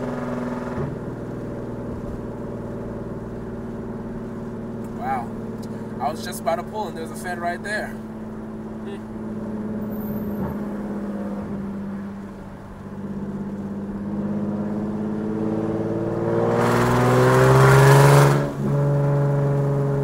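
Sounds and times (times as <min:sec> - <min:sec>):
car engine accelerating with rasp: 0:00.0 - 0:20.0.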